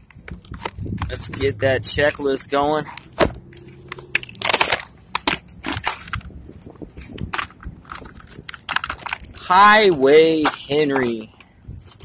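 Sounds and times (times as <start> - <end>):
plastic packaging crackling and crunching: 0.0 - 12.0.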